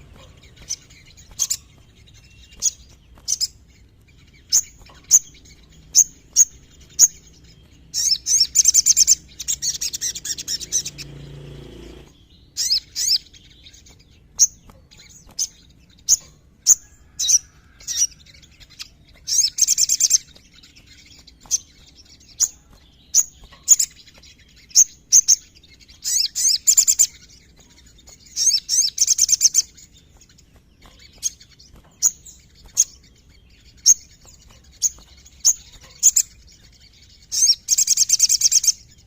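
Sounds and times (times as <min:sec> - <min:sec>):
sunbird chirping and trilling: 0:00.0 - 0:39.0.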